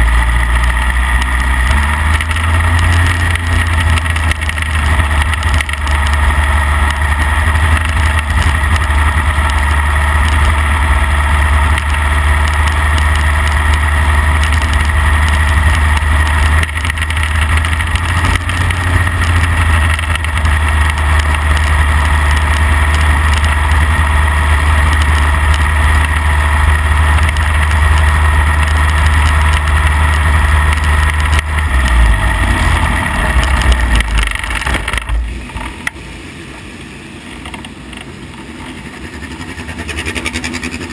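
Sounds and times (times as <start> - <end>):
race car engine: 0.0 - 40.9.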